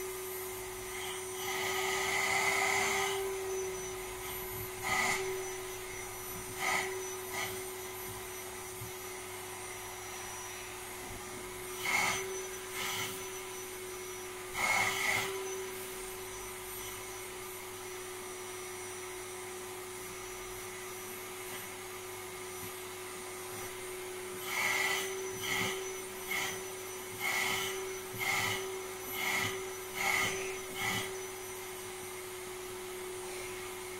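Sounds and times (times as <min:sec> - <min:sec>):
vacuum cleaner whine: 0:00.0 - 0:33.9.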